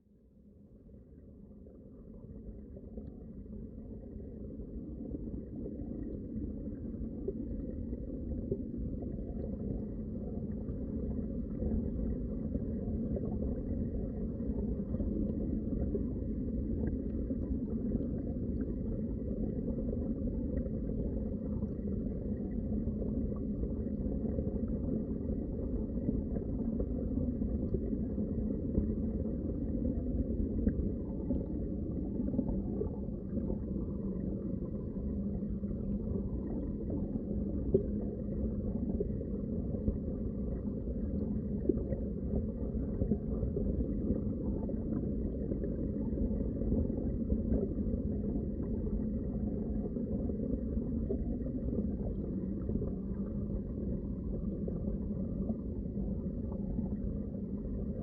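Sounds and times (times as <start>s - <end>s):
underwater rumble of moving water: 0.0s - 58.0s.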